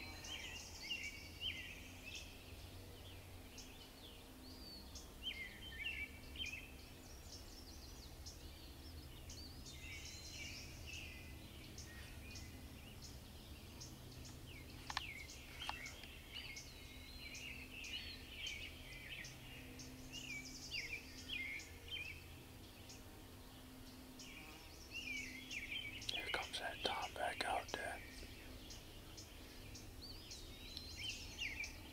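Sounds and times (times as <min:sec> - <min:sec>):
faint low hum: 0:00.0 - 0:31.9
songbirds singing and chirping: 0:00.0 - 0:31.9.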